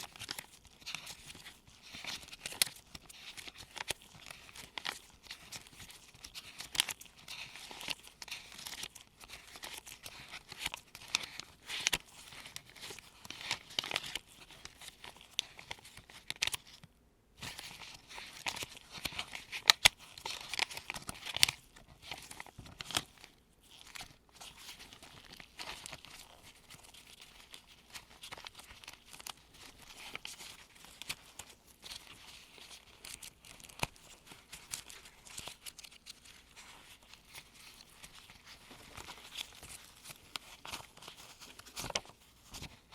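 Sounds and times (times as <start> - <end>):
paper bills rustling: 0.0 - 16.8, 17.4 - 42.9.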